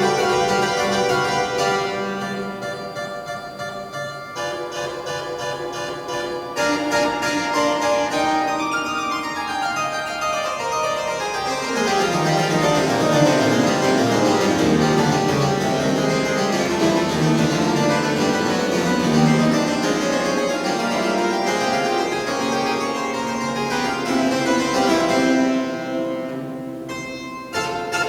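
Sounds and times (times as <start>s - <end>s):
pipe organ playing: 0.0s - 26.9s.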